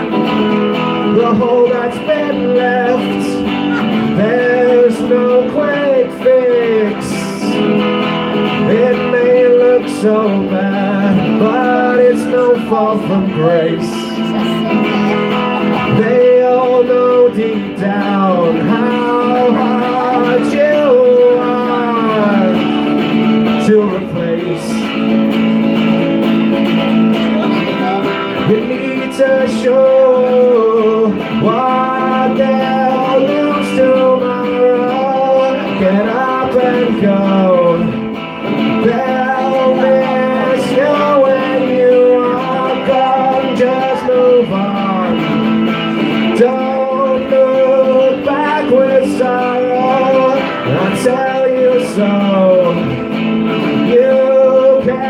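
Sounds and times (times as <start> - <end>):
electric guitar: 0.0 - 55.0
man singing: 0.0 - 55.0.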